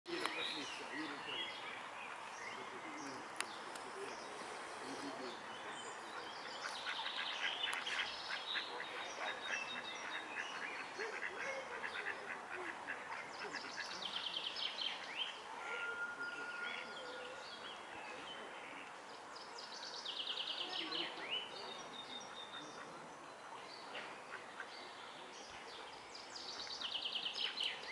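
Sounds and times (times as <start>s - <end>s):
birds calling and singing: 0.1s - 27.9s
outdoor background hiss: 0.1s - 27.9s.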